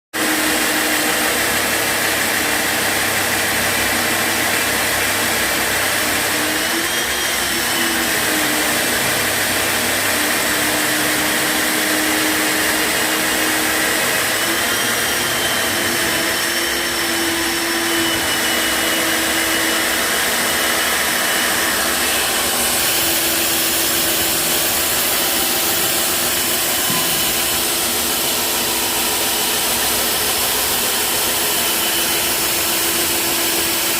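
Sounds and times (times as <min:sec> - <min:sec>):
concrete core drill running: 0:00.1 - 0:33.9.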